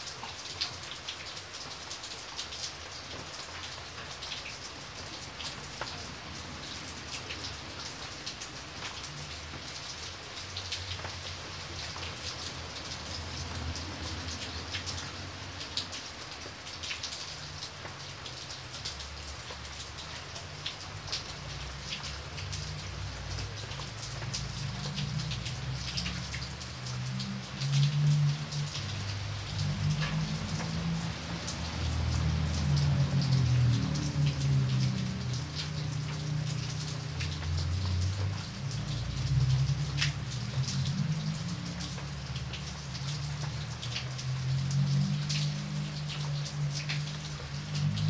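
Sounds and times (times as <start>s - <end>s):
heavy rain falling: 0.0s - 48.0s
raindrops ticking: 0.0s - 48.0s.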